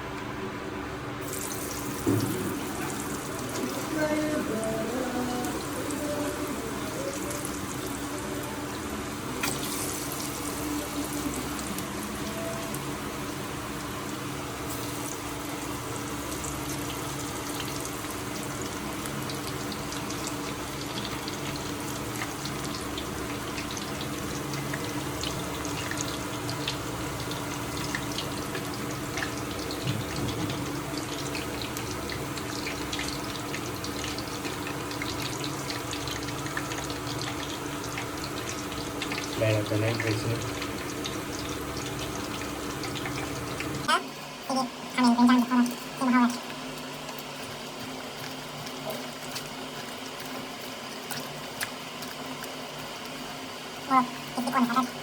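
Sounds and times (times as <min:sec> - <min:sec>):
running water: 0:01.2 - 0:55.0.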